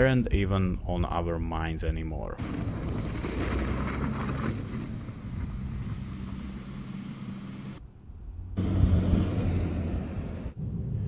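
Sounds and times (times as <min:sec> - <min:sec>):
car engine and road rumble: 0:00.0 - 0:10.6.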